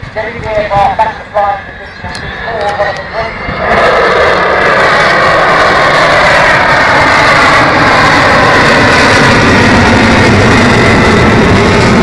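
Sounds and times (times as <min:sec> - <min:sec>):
loud jet engine noise: 0:00.0 - 0:12.0.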